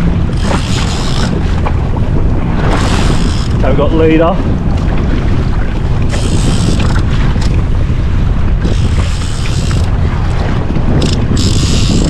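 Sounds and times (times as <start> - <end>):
water washing against a hull: 0.0 - 12.0
wind buffeting the microphone: 0.0 - 12.0.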